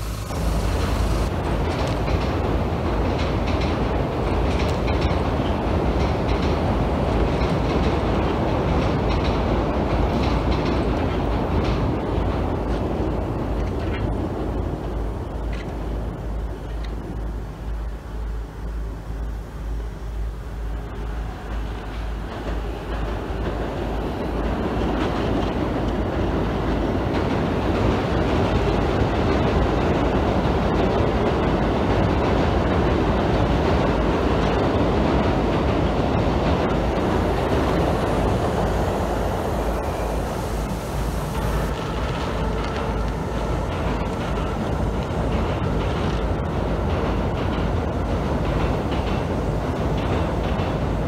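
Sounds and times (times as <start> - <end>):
train wheels rumbling on bridge: 0.0 - 51.0.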